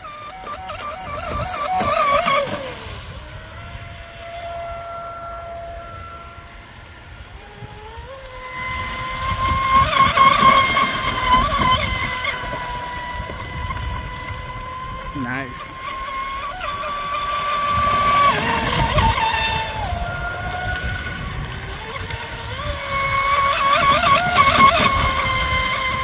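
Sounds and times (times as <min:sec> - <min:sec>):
electric boat motor whining: 0:00.0 - 0:26.0.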